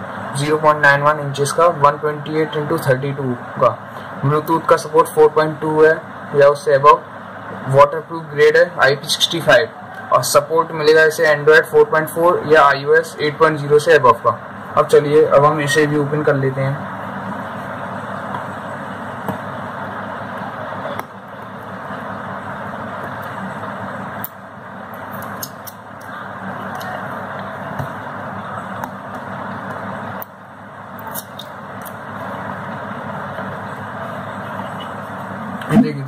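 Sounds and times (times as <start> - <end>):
rushing background noise: 0.0 - 36.0.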